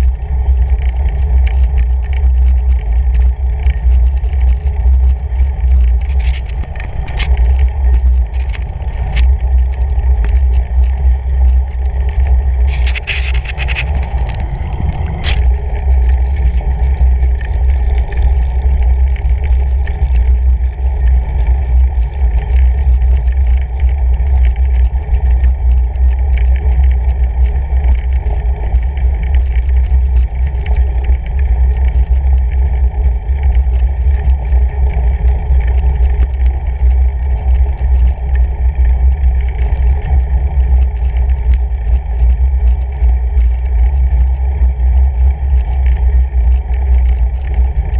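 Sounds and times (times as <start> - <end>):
bike tires rumbling on snow: 0.0 - 47.9
small ticks and clicks: 0.0 - 47.9.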